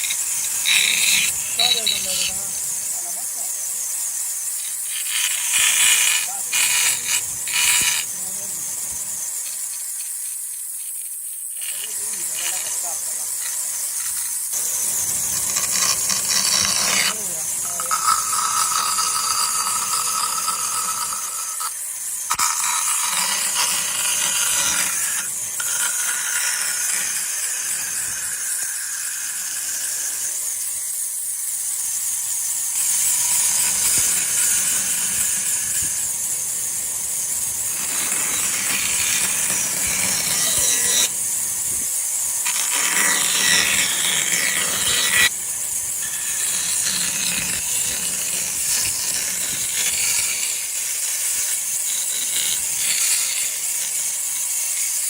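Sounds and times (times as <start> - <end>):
power tools sawing wood: 0.0 - 3.8, 4.6 - 8.8, 11.5 - 31.1, 32.5 - 55.0.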